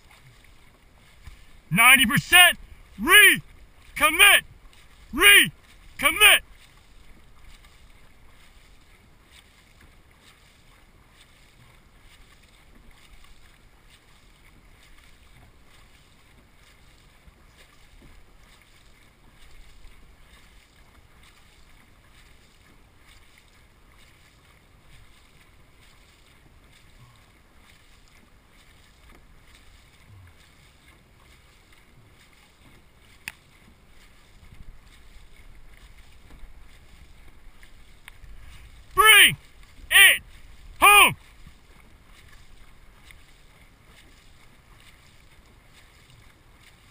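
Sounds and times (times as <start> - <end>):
faint water noise from boat: 0.0 - 46.9
paddles splashing into water: 0.0 - 46.9.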